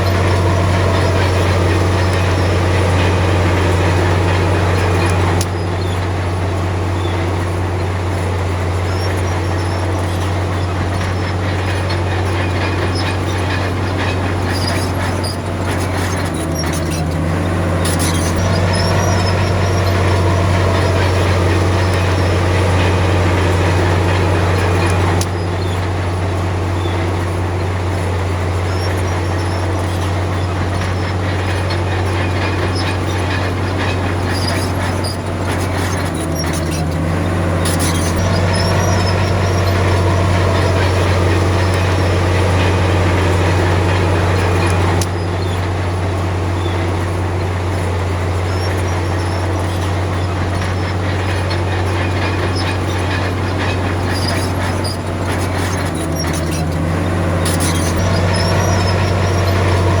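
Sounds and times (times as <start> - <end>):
heavy diesel engine droning: 0.0 - 60.0.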